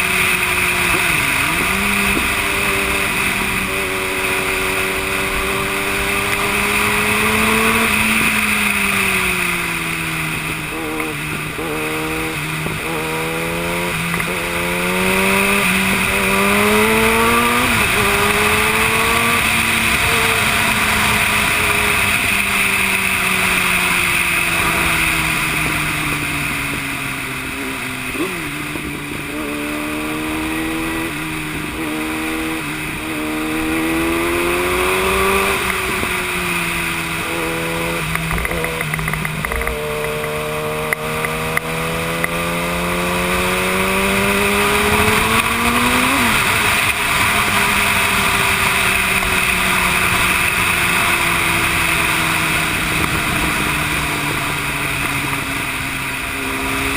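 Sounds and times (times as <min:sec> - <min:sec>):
motorcycle engine shifting gears: 0:00.0 - 0:56.9.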